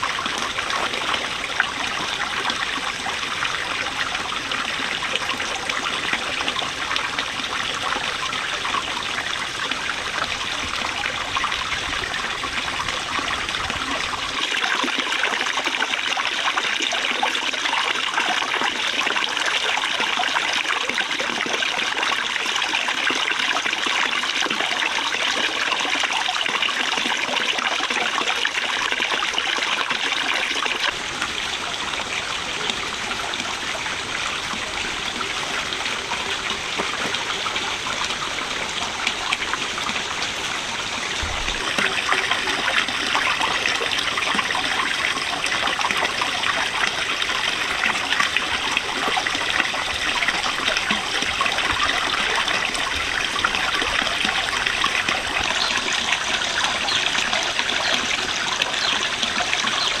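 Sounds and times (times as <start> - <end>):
water trickling: 0.0 - 60.0.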